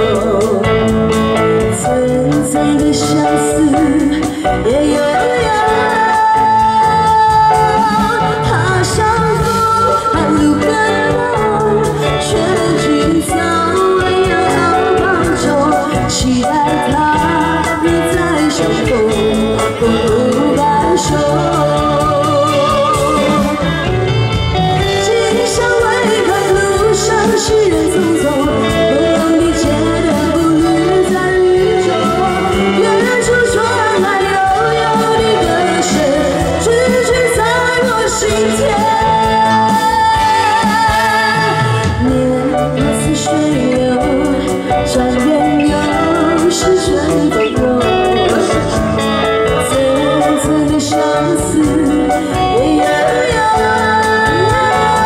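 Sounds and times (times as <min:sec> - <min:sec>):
live band playing: 0:00.0 - 0:55.0
woman singing pop ballad: 0:00.0 - 0:55.0.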